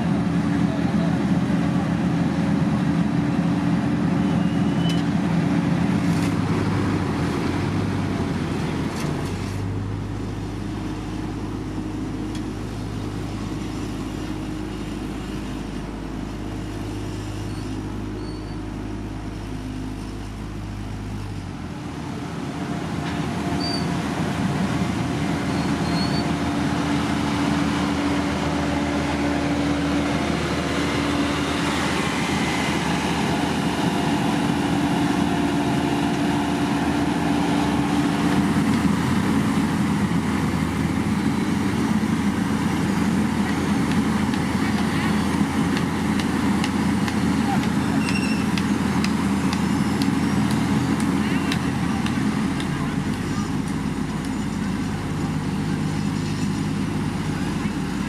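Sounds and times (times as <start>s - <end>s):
heavy machinery engines running: 0.0s - 58.0s
deep steady hum: 5.5s - 58.0s.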